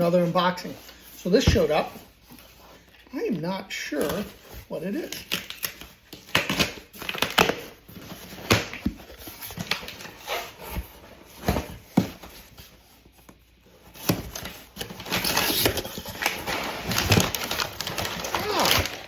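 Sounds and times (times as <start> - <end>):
cardboard rustling: 0.0 - 19.0
cardboard package handling: 0.3 - 3.0, 3.9 - 19.0.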